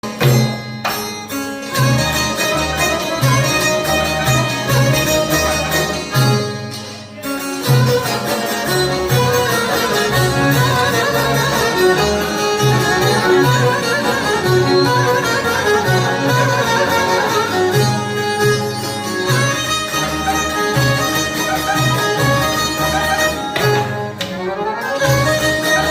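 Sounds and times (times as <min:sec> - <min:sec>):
folk fiddle music: 0:00.0 - 0:25.9.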